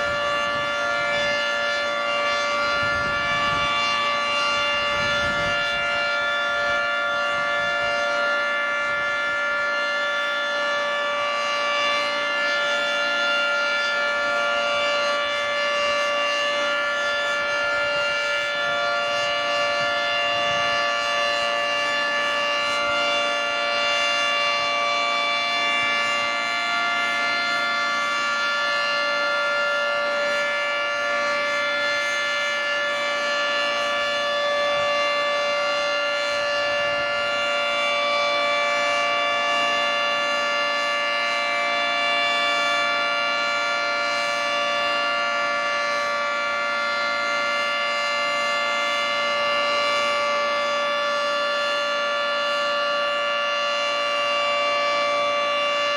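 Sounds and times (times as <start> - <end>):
outdoor warning siren: 0.0 - 55.9.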